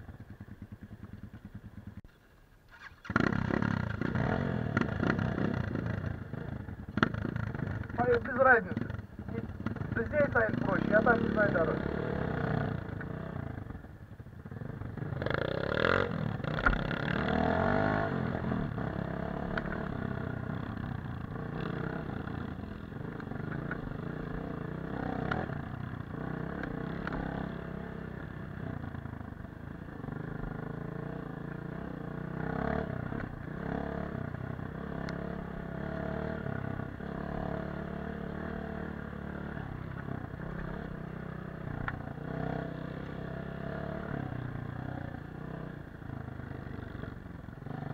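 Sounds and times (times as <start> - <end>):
motorcycle engine revving: 2.7 - 47.9.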